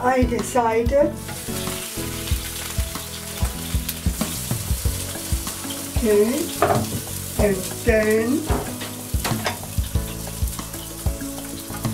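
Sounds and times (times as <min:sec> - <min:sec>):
crackles and pops of frying: 0:00.4 - 0:11.9
dumplings sizzling in hot oil: 0:01.1 - 0:11.9.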